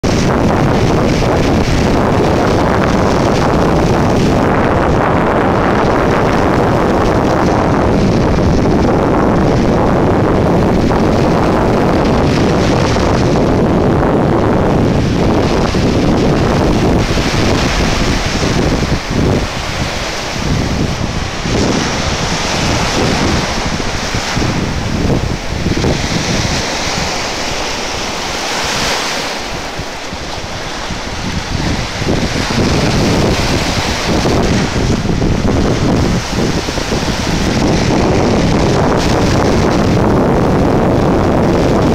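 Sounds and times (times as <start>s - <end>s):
surf breaking on shore: 0.0s - 41.9s
wind buffeting microphone: 0.0s - 41.9s.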